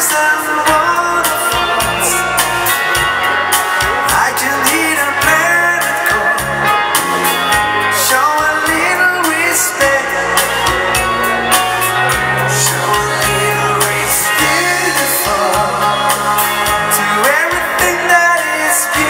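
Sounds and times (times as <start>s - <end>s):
live dance band playing: 0.0s - 19.0s.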